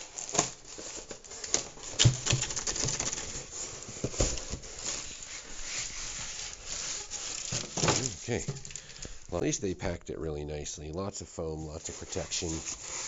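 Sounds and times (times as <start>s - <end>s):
packing foam and cardboard rustling: 0.0s - 10.0s, 11.4s - 13.0s.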